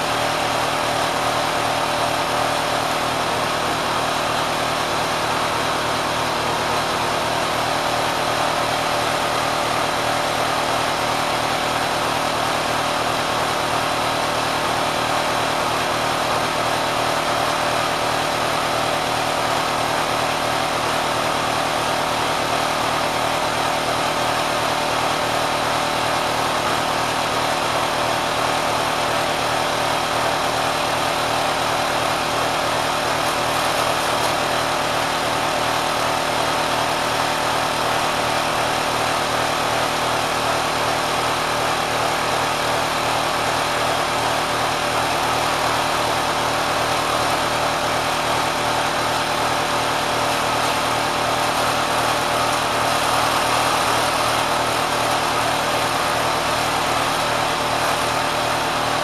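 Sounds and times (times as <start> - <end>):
sewing machine running at high speed: 0.0 - 59.0.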